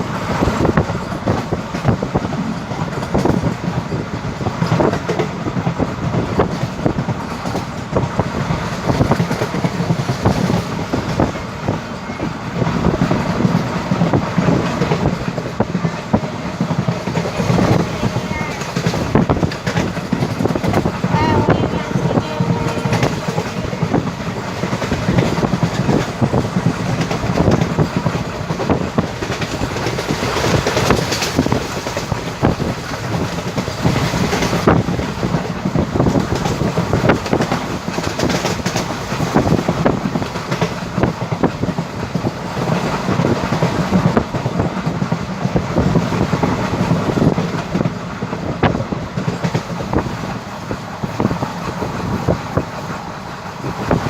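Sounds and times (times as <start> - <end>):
rumble of train coaches: 0.0 - 54.0
wheels clacking over rail joints: 0.0 - 54.0.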